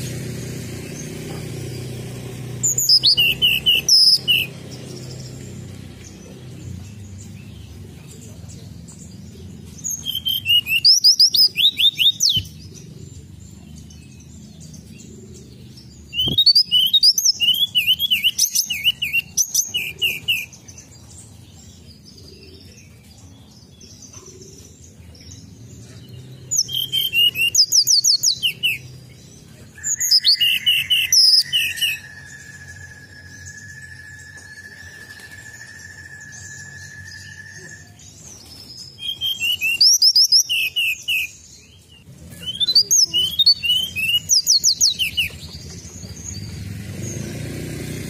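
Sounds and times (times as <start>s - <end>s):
songbird chirping: 0.0s - 48.0s.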